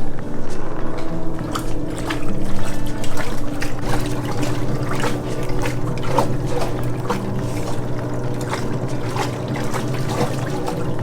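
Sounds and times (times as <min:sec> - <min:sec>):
steady low hum: 0:00.0 - 0:11.0
water trickling and sloshing: 0:00.0 - 0:11.0.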